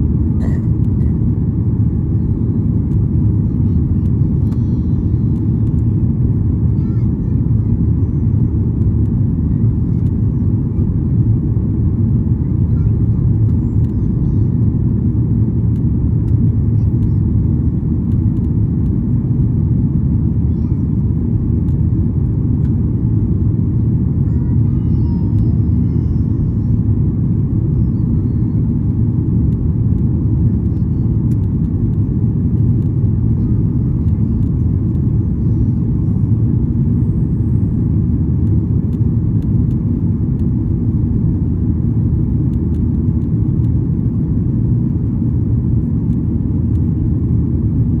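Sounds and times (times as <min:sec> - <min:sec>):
jet engine cabin rumble: 0:00.0 - 0:48.0.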